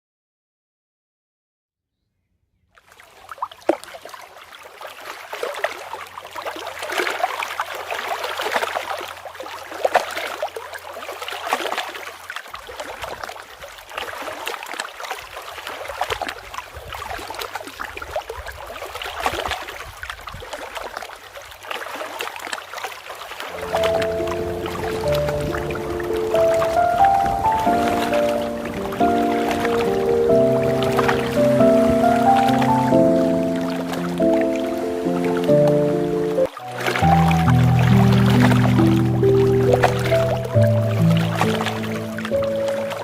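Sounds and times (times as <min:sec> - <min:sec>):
water splashing and gurgling: 0:02.8 - 0:43.0.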